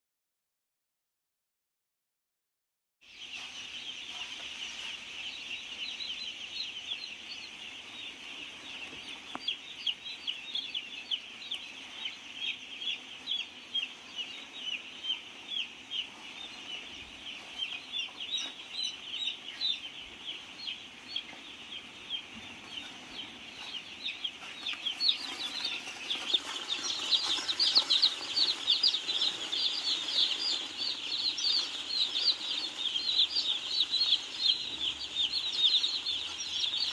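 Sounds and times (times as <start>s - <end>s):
chicks peeping: 3.1s - 36.9s.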